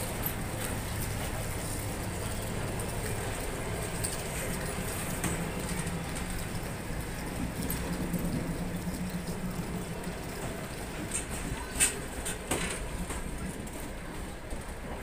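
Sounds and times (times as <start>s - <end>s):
low hum: 0.0s - 14.1s
train wheels rumbling on rail: 0.0s - 15.0s.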